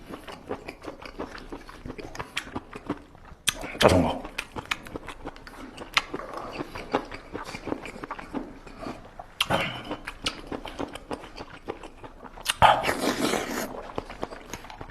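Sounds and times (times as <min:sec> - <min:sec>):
chewing and biting: 0:00.0 - 0:14.9.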